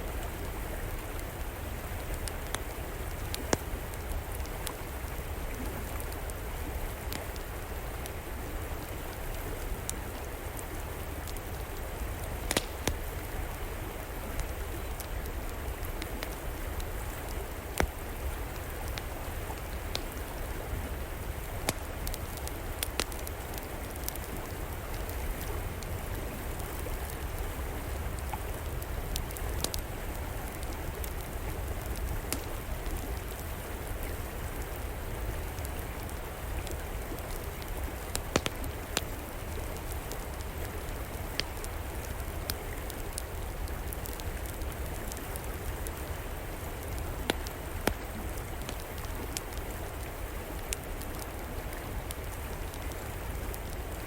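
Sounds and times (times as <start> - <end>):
river water flowing: 0.0 - 54.0
wood fire crackling: 0.0 - 54.0.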